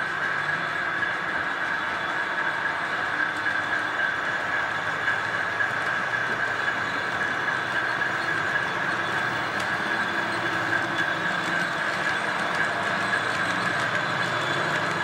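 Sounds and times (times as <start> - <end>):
model train whine: 0.0 - 15.0
wheels ticking over rails: 0.0 - 15.0.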